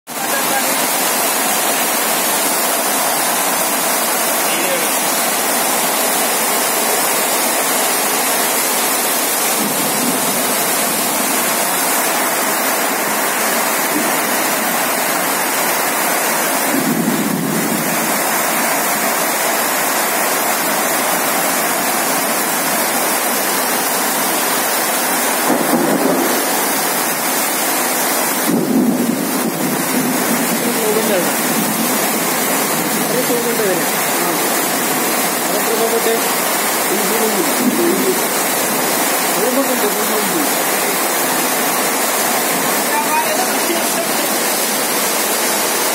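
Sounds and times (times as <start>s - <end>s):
heavy rain pouring: 0.1s - 45.9s.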